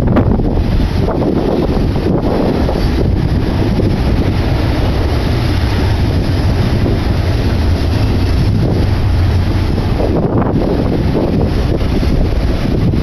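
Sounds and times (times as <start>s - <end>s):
freight train rumbling past: 0.0s - 13.0s
wind buffeting microphone: 0.0s - 13.0s.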